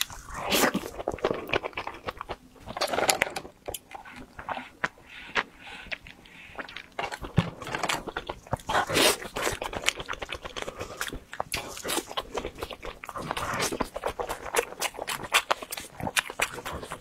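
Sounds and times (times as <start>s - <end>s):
crunching and chewing crispy food: 0.0s - 17.0s.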